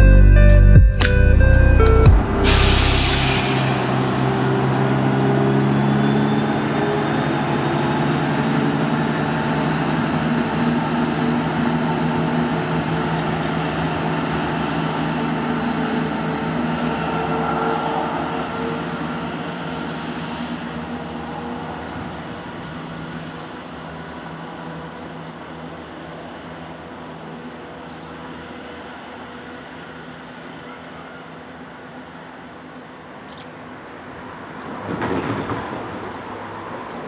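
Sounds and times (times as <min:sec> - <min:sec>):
diesel train engines running: 0:01.1 - 0:37.0.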